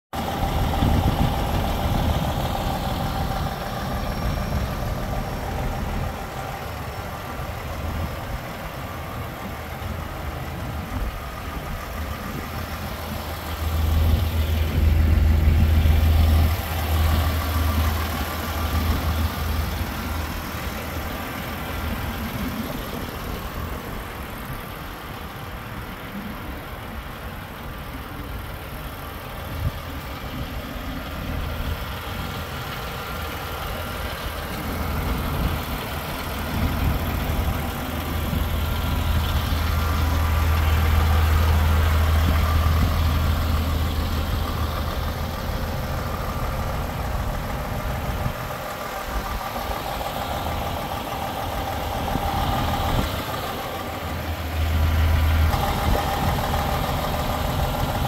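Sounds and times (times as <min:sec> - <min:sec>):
truck diesel engine idling: 0:00.1 - 0:58.0.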